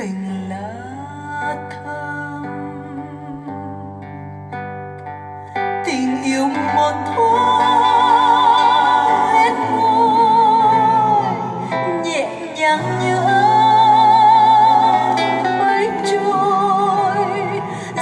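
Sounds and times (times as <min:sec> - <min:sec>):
woman singing a slow ballad: 0:00.0 - 0:18.0.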